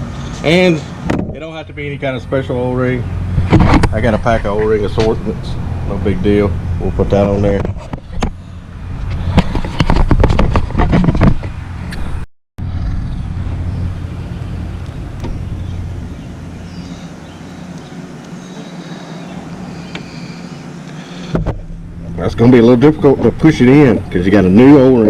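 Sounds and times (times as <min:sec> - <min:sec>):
low engine-like hum: 0:00.0 - 0:10.6, 0:11.4 - 0:25.0.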